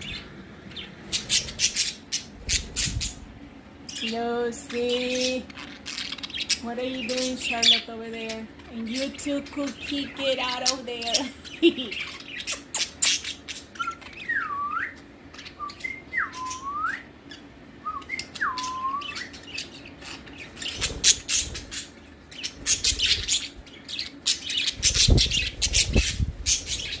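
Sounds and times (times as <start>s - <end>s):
budgerigars chirping and whistling: 0.0s - 27.0s.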